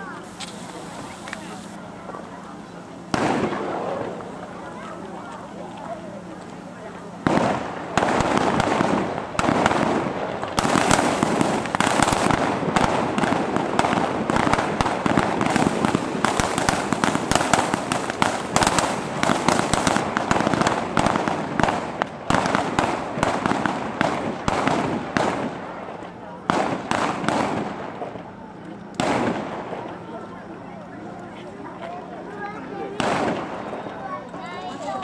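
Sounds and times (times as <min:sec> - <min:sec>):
fireworks crackling and hissing: 0:00.0 - 0:28.4, 0:29.0 - 0:30.0, 0:32.9 - 0:33.9.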